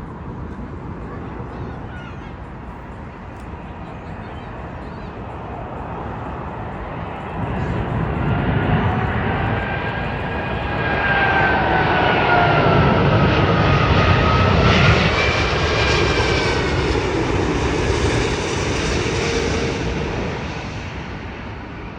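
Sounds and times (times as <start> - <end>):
jet engine rumble overhead: 0.0 - 21.9.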